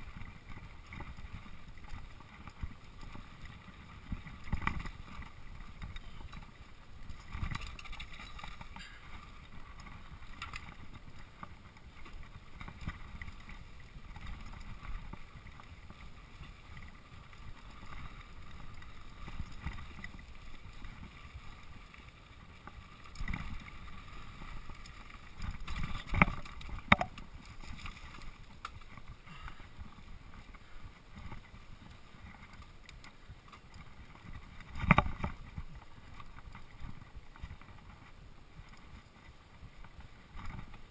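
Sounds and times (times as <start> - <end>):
bike rattling over bumps: 0.0 - 38.0
bike tyres rolling on dirt: 0.0 - 40.9.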